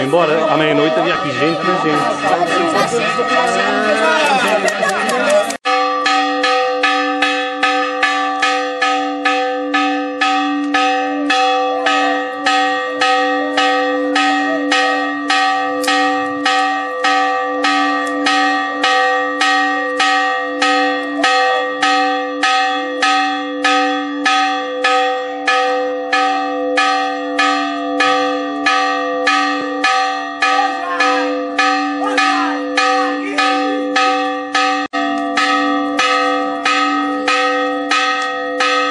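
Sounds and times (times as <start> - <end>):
church bell ringing rapidly: 0.0 - 38.9.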